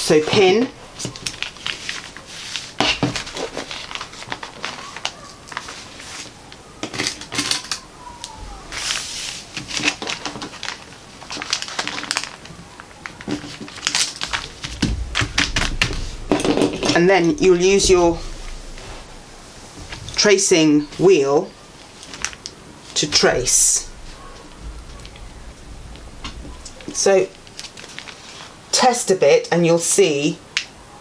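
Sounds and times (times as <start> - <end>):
paper rustling and crinkling: 0.0 - 28.6.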